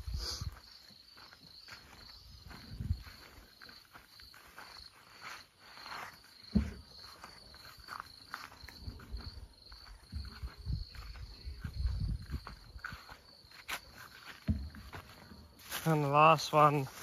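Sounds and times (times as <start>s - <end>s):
footsteps through plants: 0.0s - 17.0s
insect chirping: 0.0s - 17.0s.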